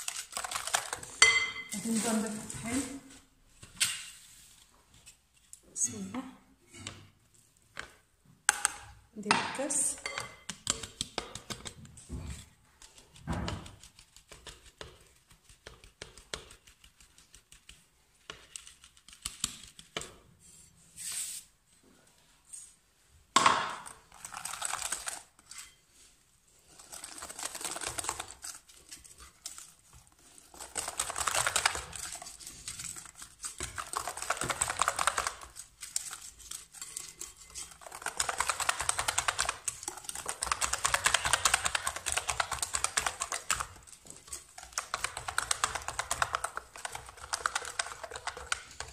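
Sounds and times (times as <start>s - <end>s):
whisk clicking and scraping bowl: 0.0s - 3.1s, 7.8s - 20.2s, 23.8s - 48.9s.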